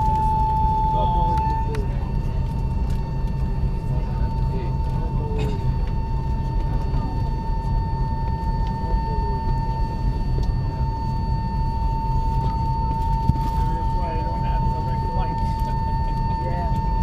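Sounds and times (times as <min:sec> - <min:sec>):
aircraft cabin low rumble: 0:00.0 - 0:17.0
high-pitched whine: 0:00.0 - 0:17.0.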